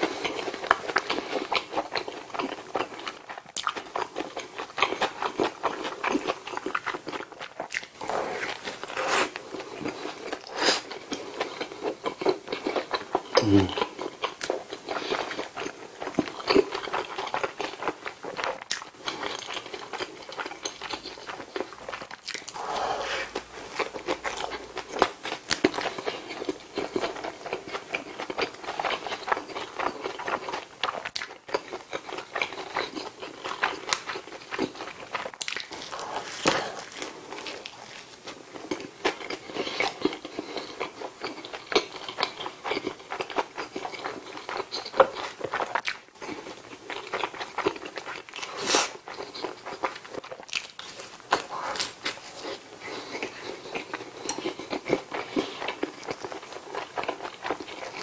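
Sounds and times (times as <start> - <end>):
chewing and biting food: 0.0 - 58.0.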